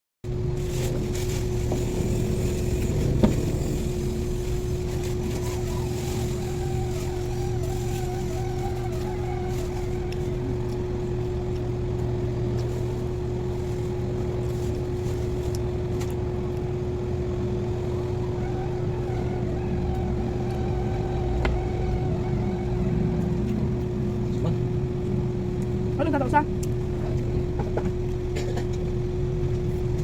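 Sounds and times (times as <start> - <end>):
motor running steadily: 0.3 - 30.0.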